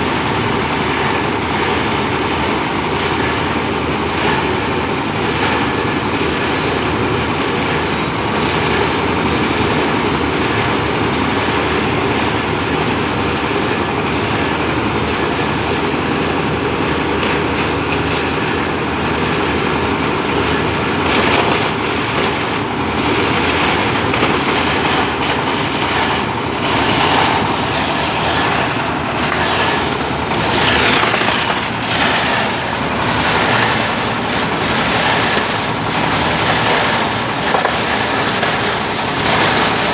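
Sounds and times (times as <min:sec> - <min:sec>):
shredder machine running: 0:00.0 - 0:39.9.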